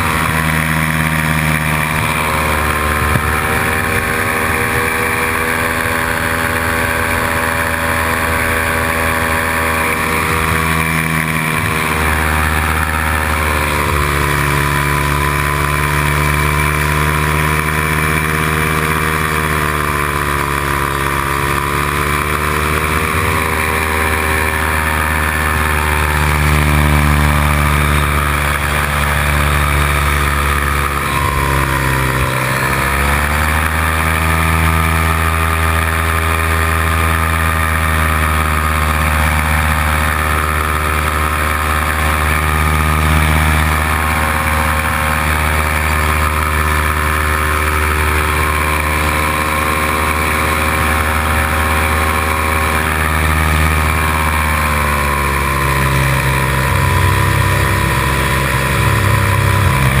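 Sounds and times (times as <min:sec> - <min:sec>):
paramotor engine and propeller: 0:00.0 - 1:00.0.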